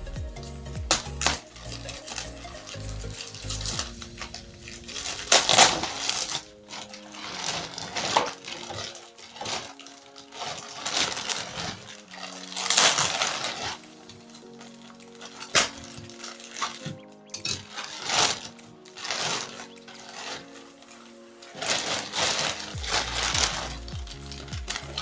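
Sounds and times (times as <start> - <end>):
quiet background music: 0.0 - 25.0
packaging crinkling and rustling: 0.9 - 25.0.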